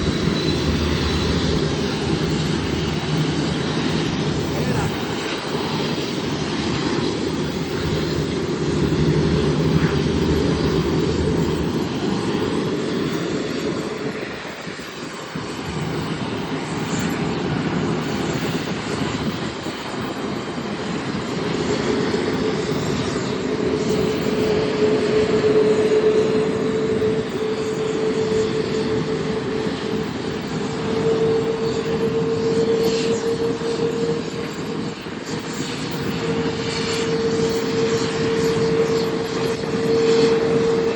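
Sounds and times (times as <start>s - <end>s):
aircraft engines running: 0.0s - 40.9s
steady hum: 0.0s - 40.9s.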